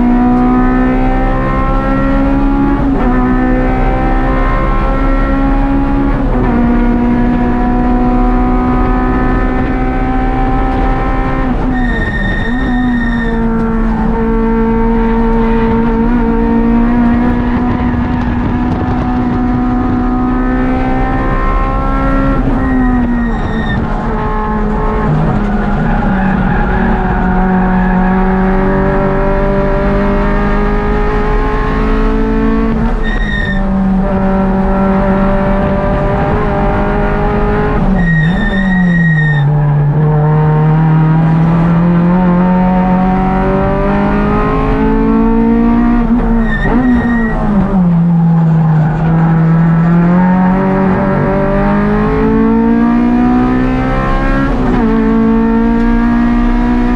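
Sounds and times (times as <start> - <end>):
car engine running hard: 0.0 - 56.9.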